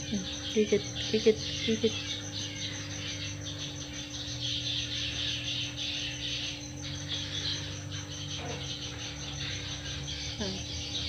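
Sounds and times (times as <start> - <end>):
insects chirping: 0.0 - 11.0
low steady hum: 0.0 - 11.0.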